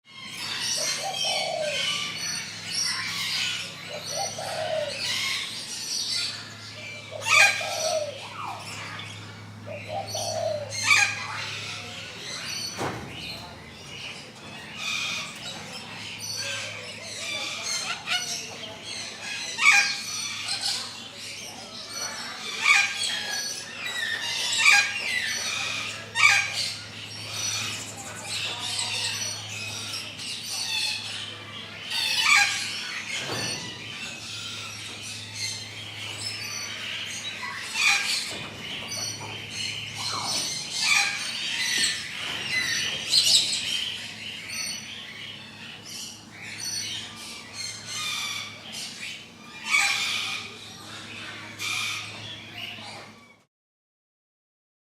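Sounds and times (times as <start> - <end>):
birds chirping and squawking: 0.1 - 53.5.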